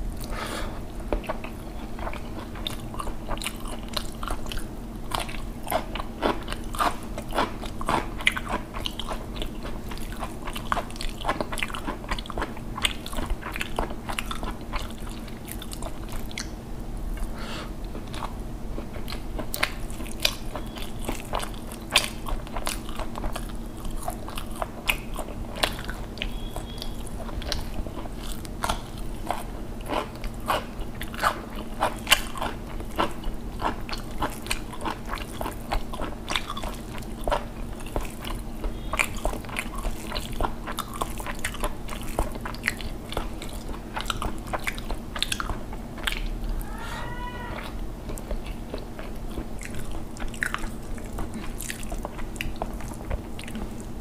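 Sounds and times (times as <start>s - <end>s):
wet chewing and mouth smacking: 1.1s - 54.0s.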